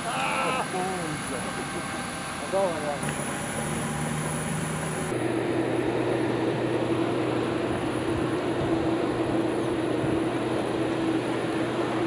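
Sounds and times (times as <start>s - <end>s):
aircraft humming: 0.0s - 12.0s.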